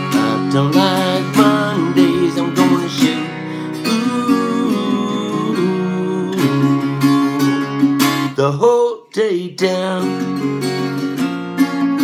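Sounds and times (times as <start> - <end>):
man singing: 0.0 - 10.8
twelve-string guitar strumming: 0.0 - 12.0.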